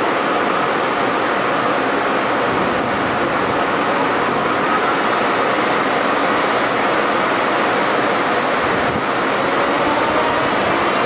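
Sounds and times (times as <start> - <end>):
faint steady whine: 0.0 - 11.0
train wheels on rail rushing: 0.0 - 11.0.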